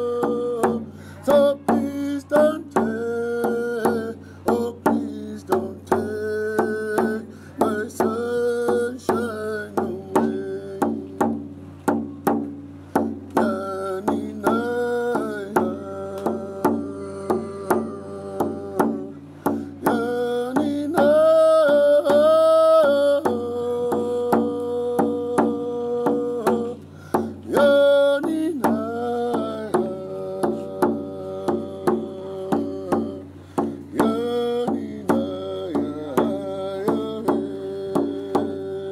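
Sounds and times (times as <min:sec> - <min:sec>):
man singing wavering melody: 0:00.0 - 0:11.6, 0:13.2 - 0:38.9
frame drum beat: 0:00.0 - 0:38.9.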